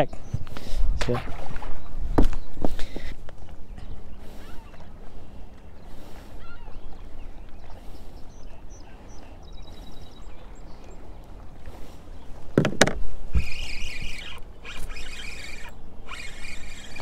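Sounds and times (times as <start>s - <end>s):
river water: 0.0s - 17.0s.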